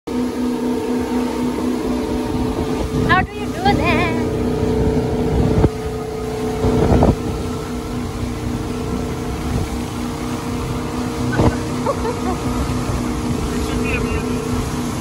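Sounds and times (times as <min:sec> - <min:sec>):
boat engine drone: 0:00.1 - 0:15.0
churning wake rushing: 0:00.1 - 0:15.0
wind on microphone: 0:01.9 - 0:15.0.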